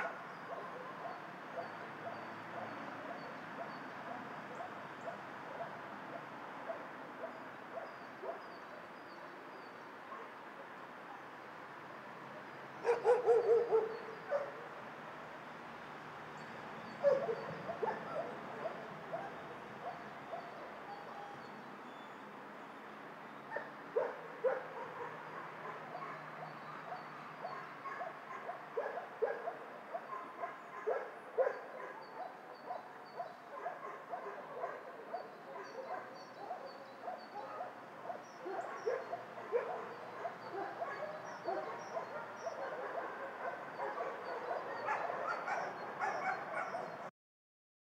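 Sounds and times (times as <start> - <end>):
many dogs barking: 0.0 - 8.7, 10.1 - 10.4, 12.8 - 14.8, 16.9 - 21.5, 23.5 - 47.1.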